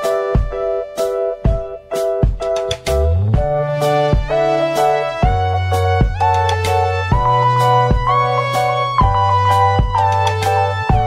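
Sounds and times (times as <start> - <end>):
held music chords: 0.0 - 11.0.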